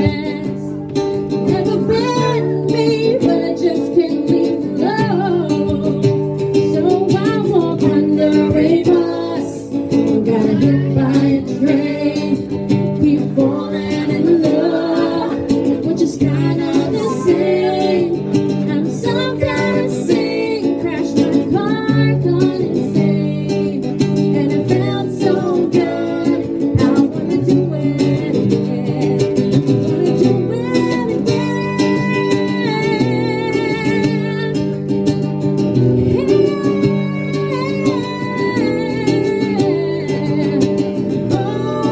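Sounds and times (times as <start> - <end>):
woman singing: 0.0 - 34.8, 36.0 - 41.9
acoustic guitar: 0.0 - 41.9.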